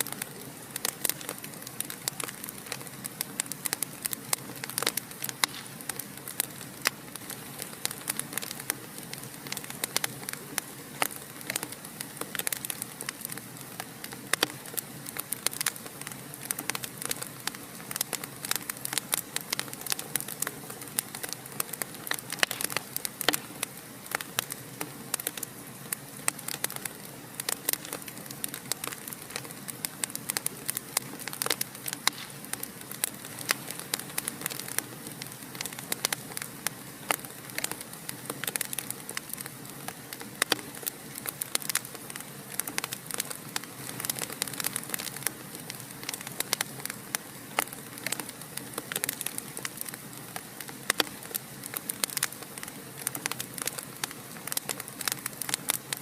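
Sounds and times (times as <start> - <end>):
fireplace fire crackling: 0.0 - 56.0.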